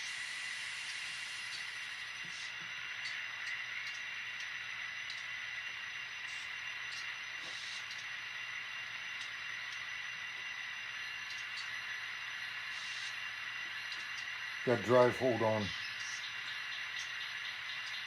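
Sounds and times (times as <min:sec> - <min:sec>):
faint low hum: 0:00.0 - 0:18.0
model locomotive engine hiss: 0:00.0 - 0:18.0.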